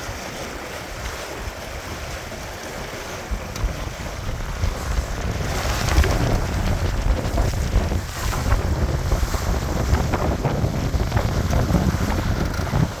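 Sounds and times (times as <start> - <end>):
water lapping against hull: 0.0 - 13.0
wind buffeting microphone: 0.0 - 13.0.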